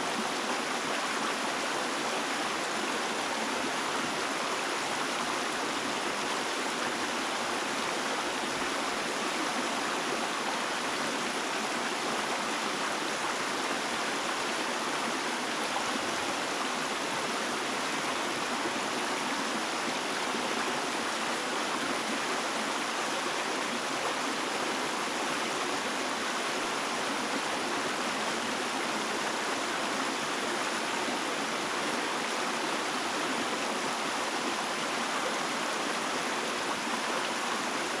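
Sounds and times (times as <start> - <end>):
stream water flowing: 0.0 - 38.0.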